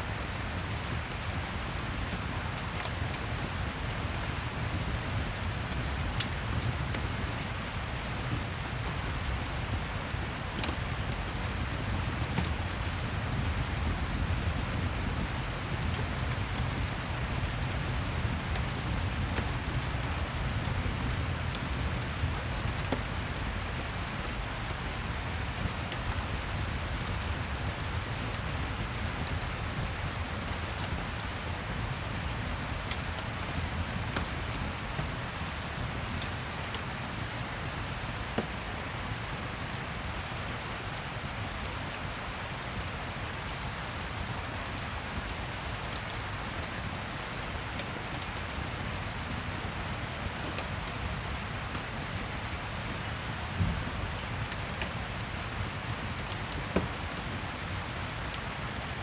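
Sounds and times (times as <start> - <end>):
steady rain falling: 0.0 - 59.0
crackling fireplace: 0.1 - 59.0.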